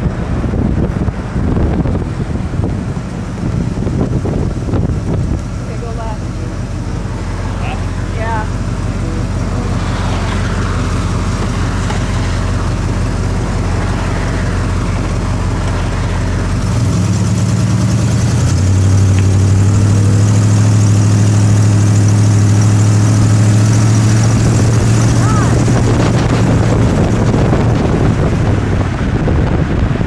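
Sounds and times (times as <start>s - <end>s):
car engine idling: 0.0s - 30.0s
wind noise: 0.0s - 30.0s.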